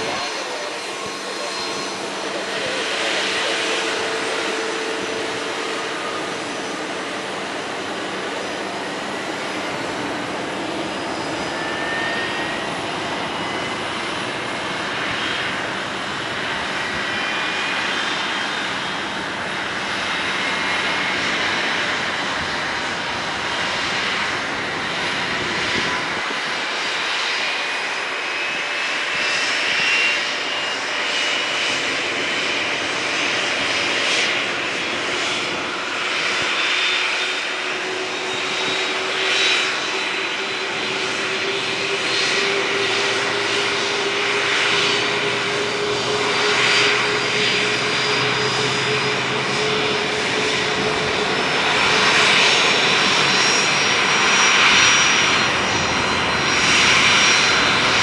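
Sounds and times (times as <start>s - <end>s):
propeller engine drone: 0.0s - 58.0s.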